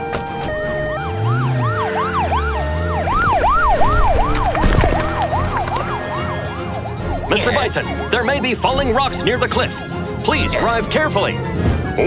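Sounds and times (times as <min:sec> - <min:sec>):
emergency vehicle siren: 0:00.0 - 0:10.2.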